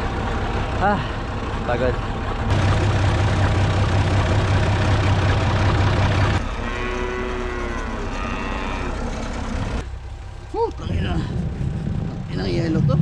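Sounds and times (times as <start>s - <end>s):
tractor engine running: 0.0s - 12.9s
engine whine: 0.0s - 13.0s.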